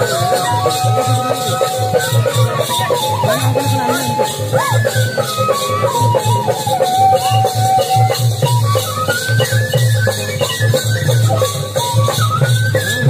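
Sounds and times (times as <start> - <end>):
folk melody: 0.0 - 13.0
light quick percussion: 0.0 - 13.0.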